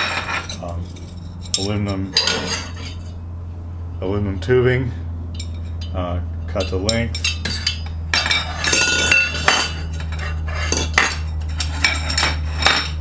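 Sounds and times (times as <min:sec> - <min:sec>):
metal tubes clinking and knocking: 0:00.0 - 0:03.2, 0:05.3 - 0:13.0
steady low hum: 0:00.0 - 0:13.0.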